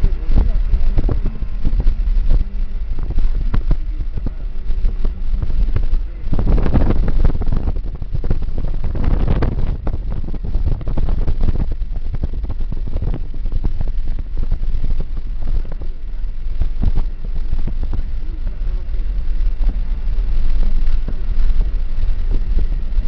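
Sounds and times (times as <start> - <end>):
constant crackle: 0.0 - 23.0
low rumble: 0.0 - 23.0
wind buffeting microphone: 0.0 - 23.0.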